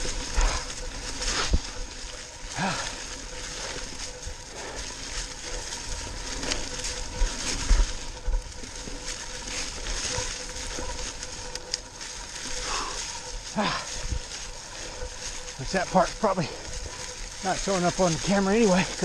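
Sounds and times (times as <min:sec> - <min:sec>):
bike tyres crunching leaves: 0:00.0 - 0:19.0.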